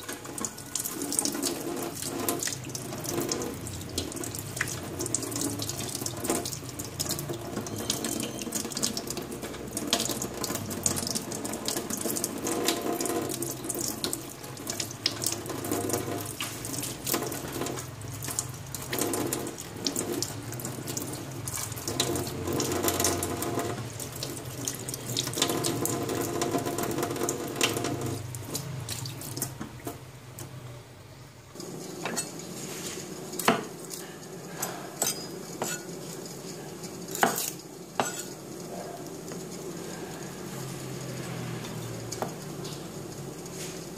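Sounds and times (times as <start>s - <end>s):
tap water running into sink: 0.0s - 30.6s, 31.5s - 43.9s.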